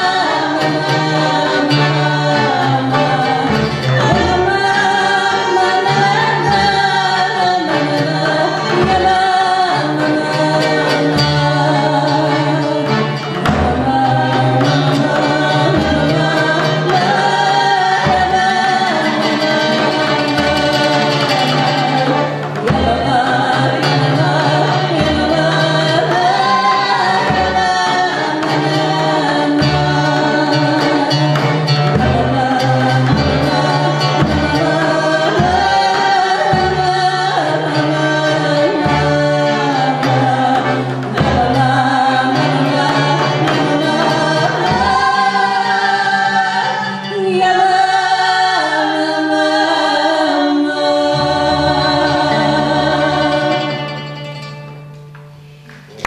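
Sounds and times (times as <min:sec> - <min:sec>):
women singing: 0:00.0 - 0:54.5
accordion: 0:00.0 - 0:56.0
oud: 0:00.0 - 0:56.0
violin: 0:00.0 - 0:56.0.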